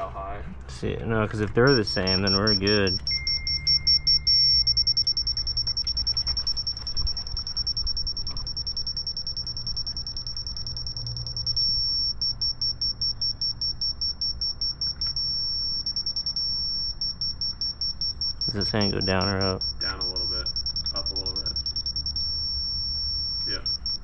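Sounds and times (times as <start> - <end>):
laser level receiver beeping: 1.6 - 24.0.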